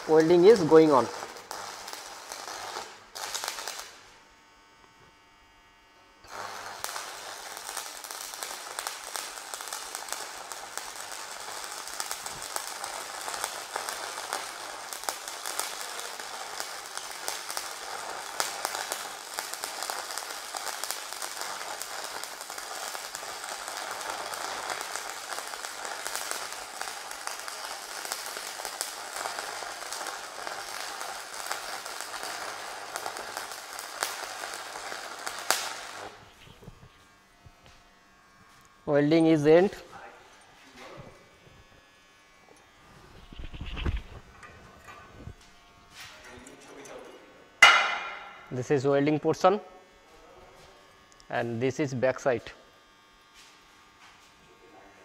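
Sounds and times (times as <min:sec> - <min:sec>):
welding arc crackling: 0:00.0 - 0:54.8.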